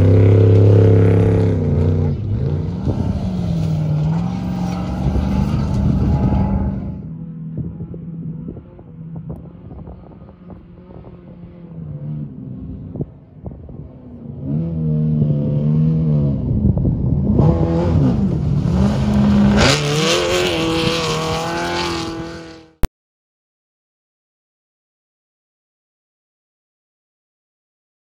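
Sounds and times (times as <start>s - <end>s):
vehicle engine revving: 0.0s - 22.9s.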